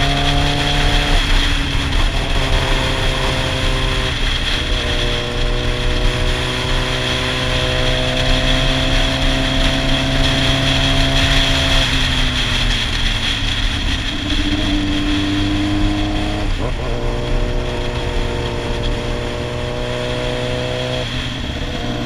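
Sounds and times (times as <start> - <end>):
motorcycle engine: 0.0 - 22.0
wind rush on microphone: 0.0 - 22.0.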